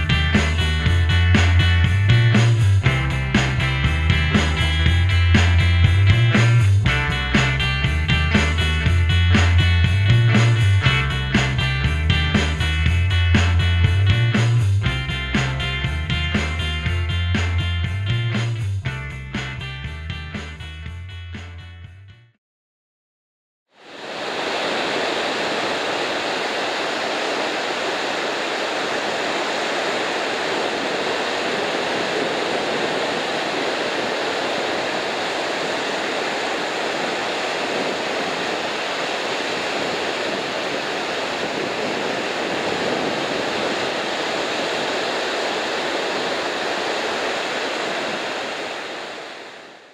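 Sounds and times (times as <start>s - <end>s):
ocean surf breaking on beach: 0.0s - 14.6s, 23.8s - 49.9s.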